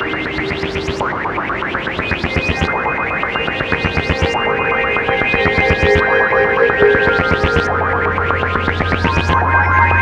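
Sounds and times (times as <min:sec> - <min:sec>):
electronic synthesizer music: 0:00.0 - 0:10.0.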